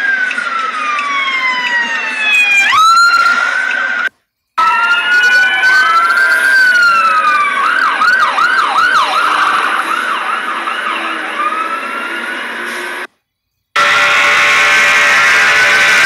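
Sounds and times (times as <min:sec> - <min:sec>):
emergency vehicle sirens wailing: 0:00.0 - 0:13.1, 0:13.8 - 0:16.0.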